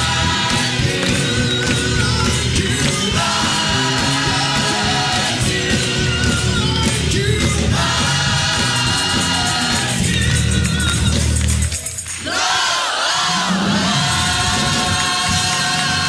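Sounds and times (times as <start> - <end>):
choir singing: 0.0 - 10.3, 12.2 - 16.0
gospel instruments playing: 0.0 - 16.0
people clapping along: 0.0 - 16.0.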